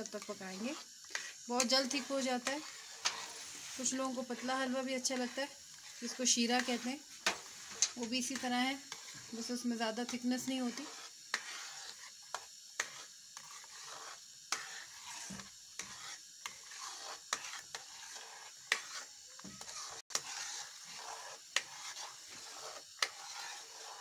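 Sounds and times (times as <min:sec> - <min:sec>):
faint sizzle: 0:00.0 - 0:24.0
spatula scraping a pan: 0:00.0 - 0:24.0.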